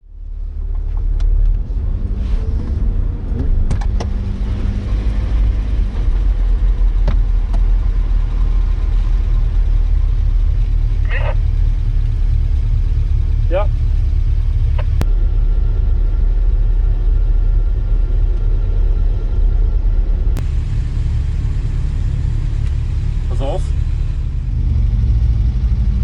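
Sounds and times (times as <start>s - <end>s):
car engine running at low revs: 0.0s - 26.0s.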